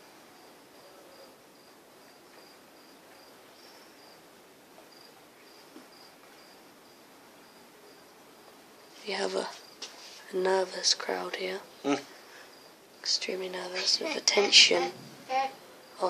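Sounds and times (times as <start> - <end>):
crickets chirping: 0.0 - 16.0
soft steady hiss: 0.0 - 16.0.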